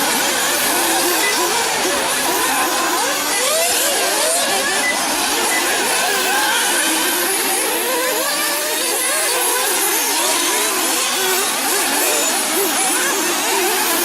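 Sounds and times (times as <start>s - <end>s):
model car engines revving: 0.0s - 14.0s.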